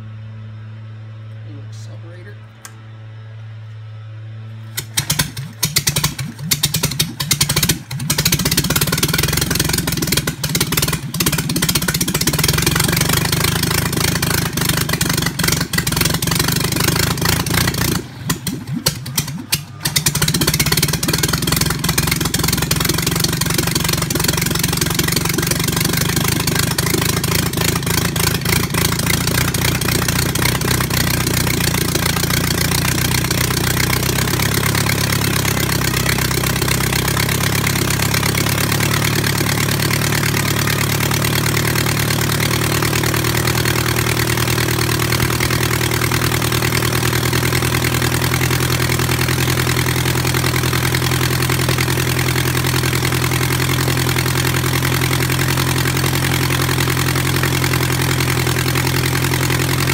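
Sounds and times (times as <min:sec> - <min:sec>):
air-cooled engine running propeller: 0:00.0 - 0:59.9.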